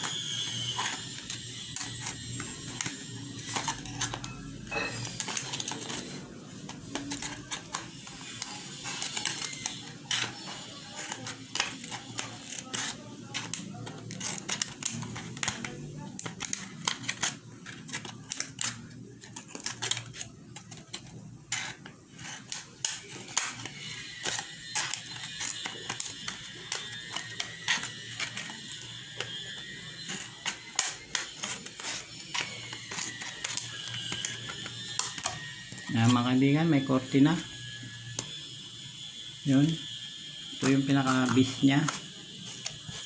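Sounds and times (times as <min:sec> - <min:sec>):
scissors snipping plastic bottle: 0:00.0 - 0:35.9.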